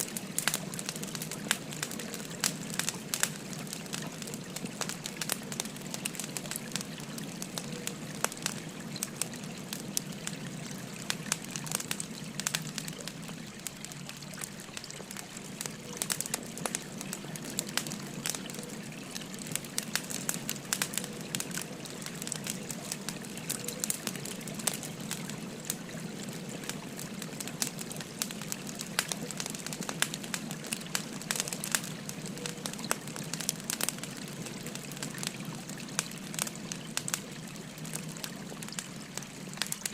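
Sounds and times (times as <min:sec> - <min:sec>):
firewood crackling and popping: 0:00.0 - 0:39.9
flowing river: 0:00.0 - 0:39.9.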